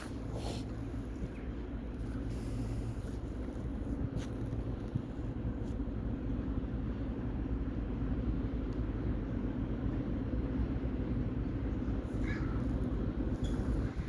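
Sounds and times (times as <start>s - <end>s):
locomotive machinery humming: 0.0s - 14.0s.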